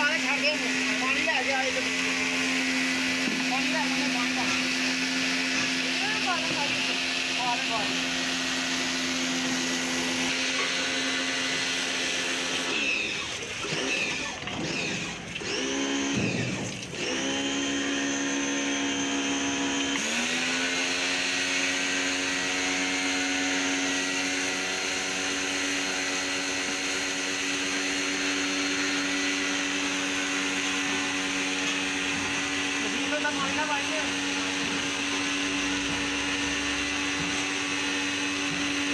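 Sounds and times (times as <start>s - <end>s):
electric motor whining: 0.0s - 38.9s.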